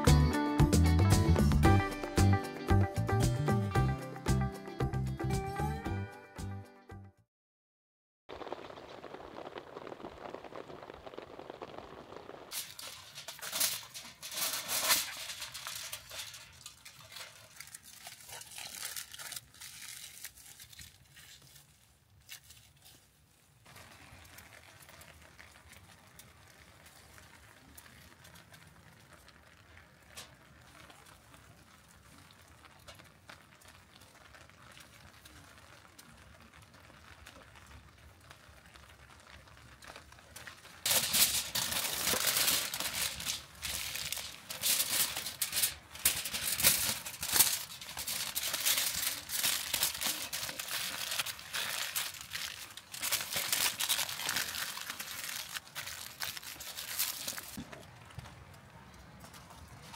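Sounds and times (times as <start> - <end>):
aluminium foil crinkling: 8.3 - 57.8.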